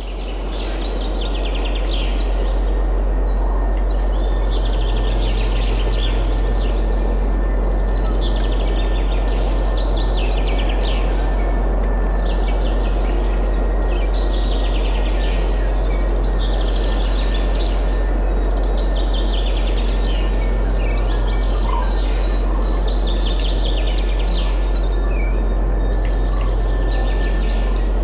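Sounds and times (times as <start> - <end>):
constant low rumble: 0.0 - 28.0
songbirds singing: 0.0 - 28.0.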